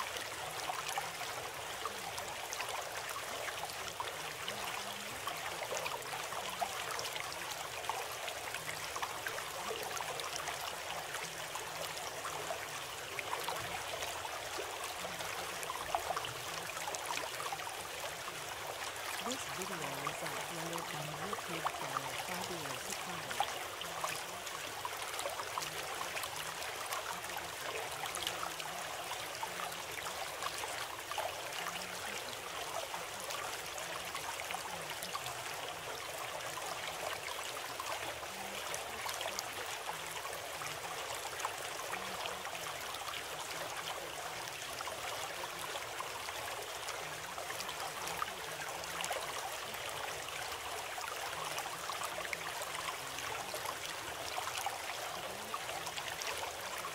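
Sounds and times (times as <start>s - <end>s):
stream water running: 0.0s - 56.9s.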